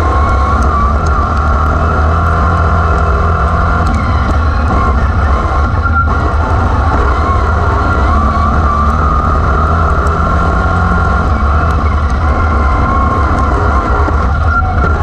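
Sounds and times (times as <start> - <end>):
racing car engines droning: 0.0 - 15.0.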